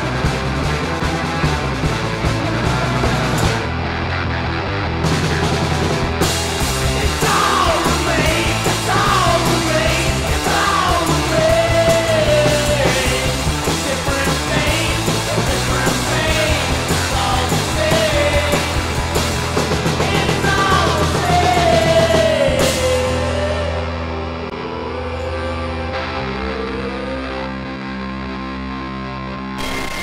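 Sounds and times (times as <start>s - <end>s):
indie rock band playing: 0.0s - 30.0s.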